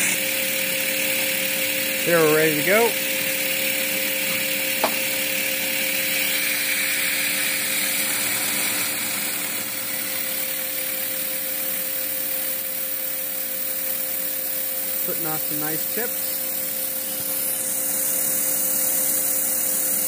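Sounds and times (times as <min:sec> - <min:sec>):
hiss of air and coolant mist: 0:00.0 - 0:20.0
milling machine hum: 0:00.0 - 0:20.0.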